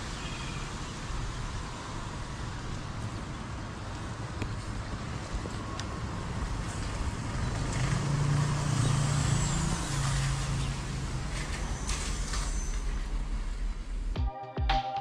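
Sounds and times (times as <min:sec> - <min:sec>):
street traffic noise: 0:00.0 - 0:14.2
vehicle engine hum: 0:00.0 - 0:14.2.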